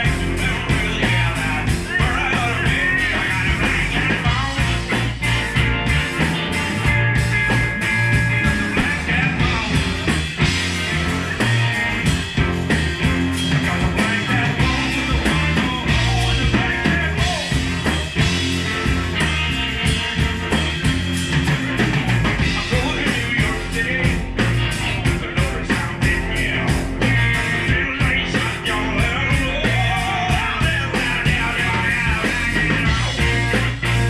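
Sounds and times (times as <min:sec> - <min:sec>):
drums keeping a beat: 0:00.0 - 0:34.0
live rock band playing: 0:00.0 - 0:34.0.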